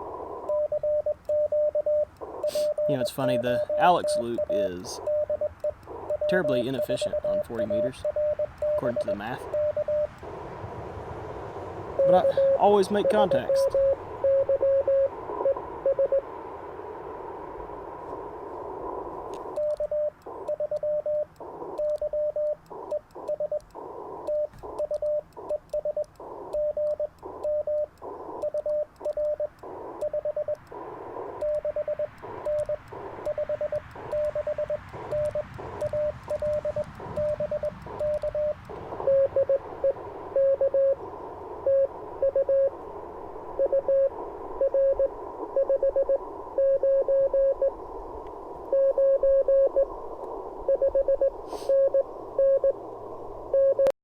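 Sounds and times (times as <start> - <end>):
radio band noise hiss: 0.0 - 0.7, 2.0 - 53.5
morse code tones: 0.1 - 10.4, 11.9 - 16.4, 18.8 - 47.8, 48.7 - 50.0, 50.6 - 52.8, 53.5 - 53.9.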